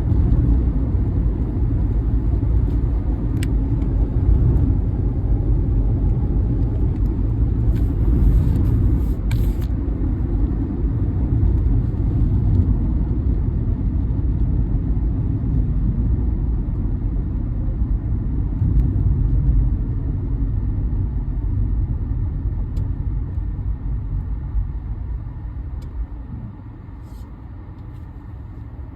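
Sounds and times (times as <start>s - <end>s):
rumble of passing vehicles: 0.0s - 28.9s.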